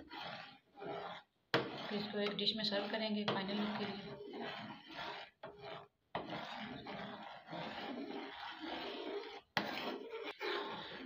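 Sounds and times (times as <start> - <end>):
metal spoon scraping a pot: 0.0 - 11.0.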